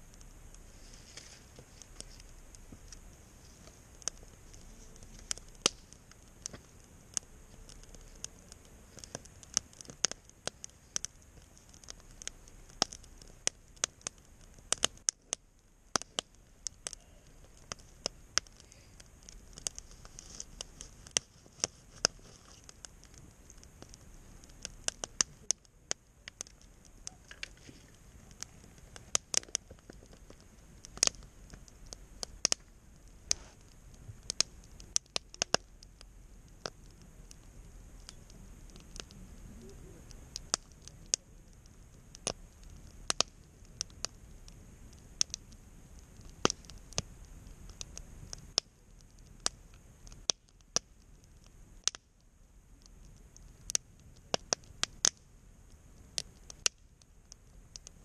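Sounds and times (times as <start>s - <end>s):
campfire crackling: 0.0s - 58.0s
fire pops and snaps: 0.0s - 58.0s.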